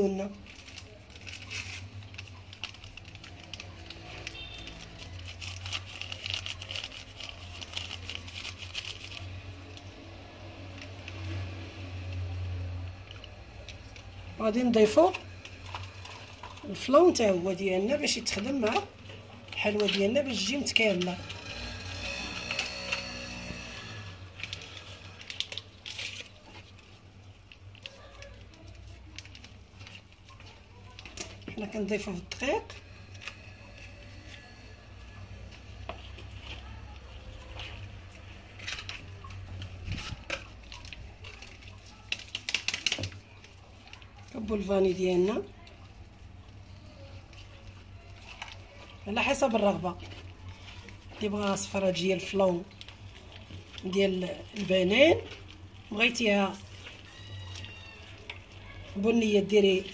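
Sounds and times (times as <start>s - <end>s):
hands working dough: 0.0s - 59.9s
paper sachet shaken: 0.1s - 59.9s.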